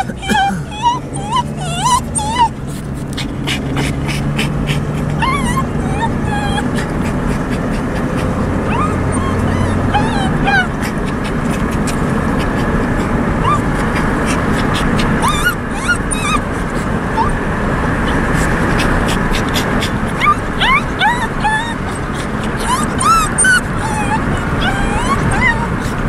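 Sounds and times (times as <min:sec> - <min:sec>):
dog whimpering: 0:00.0 - 0:26.0
wind and road noise: 0:00.0 - 0:26.0.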